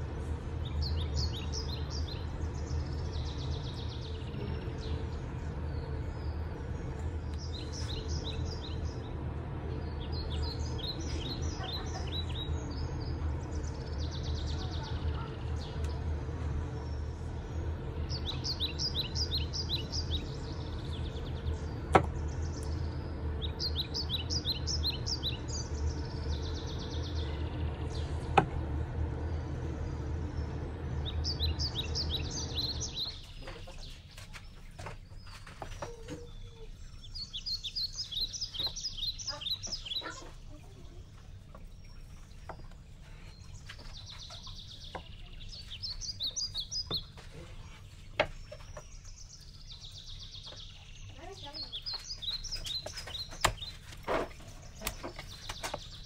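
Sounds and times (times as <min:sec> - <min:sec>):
small birds chirping: 0:00.0 - 0:56.0
steady low rumble: 0:00.0 - 0:56.0.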